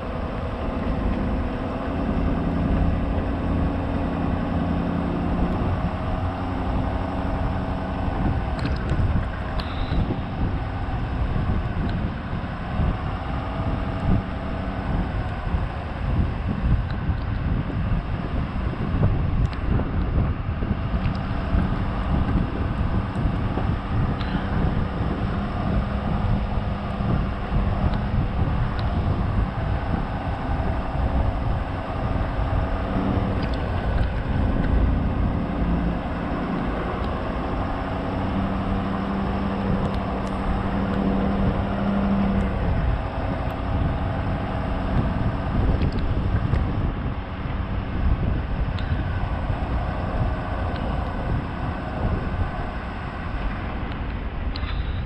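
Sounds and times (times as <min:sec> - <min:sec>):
road and wind noise: 0:00.0 - 0:55.0
truck engine rumbling: 0:00.0 - 0:55.0.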